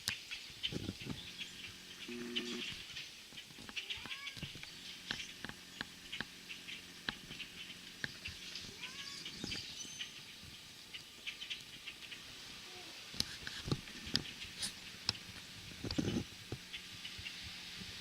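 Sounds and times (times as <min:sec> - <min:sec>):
starlings chattering: 0:00.0 - 0:18.0.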